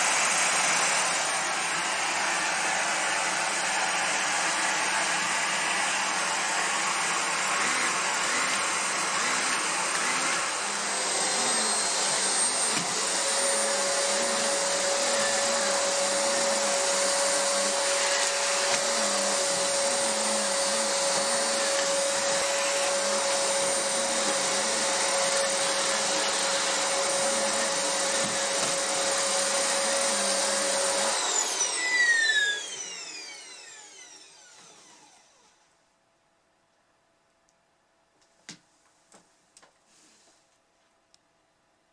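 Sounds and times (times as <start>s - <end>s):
vacuum cleaner whining: 0.0s - 35.8s.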